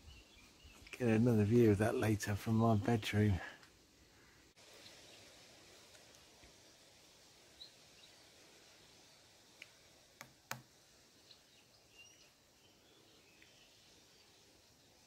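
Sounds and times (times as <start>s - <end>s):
small birds chirping: 0.0s - 3.3s, 4.0s - 10.0s, 11.0s - 15.0s.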